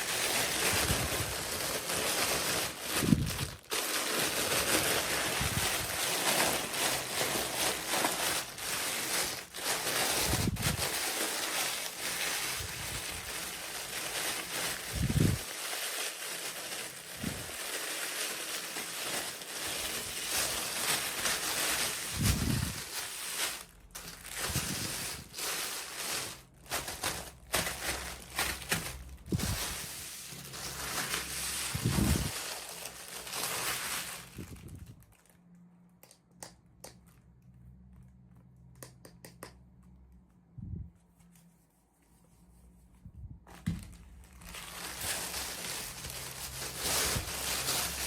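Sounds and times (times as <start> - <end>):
packaging crinkling and tearing: 0.0 - 35.5, 43.6 - 48.0.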